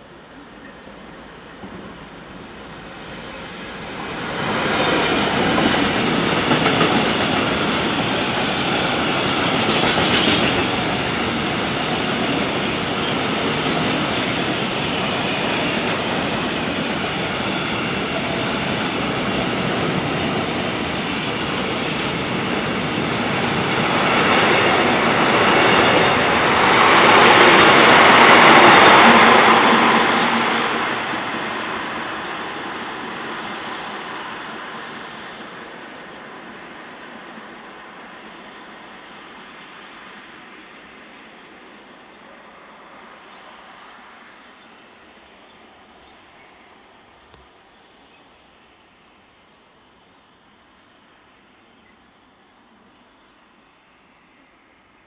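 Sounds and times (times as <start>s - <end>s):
diesel locomotive passing: 0.0s - 47.3s.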